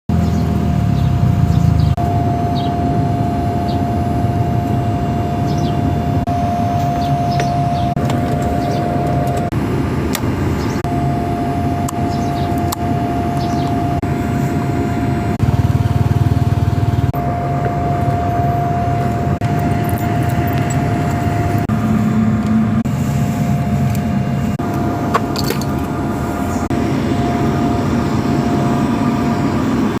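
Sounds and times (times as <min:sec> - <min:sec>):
motorcycle engine running: 0:00.1 - 0:30.0
thin whine: 0:00.1 - 0:30.0.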